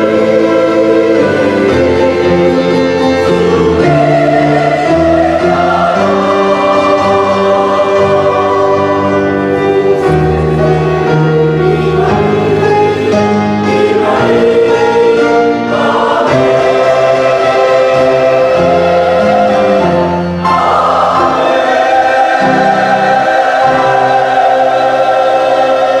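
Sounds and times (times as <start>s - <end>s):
choir singing gospel: 0.0s - 26.0s.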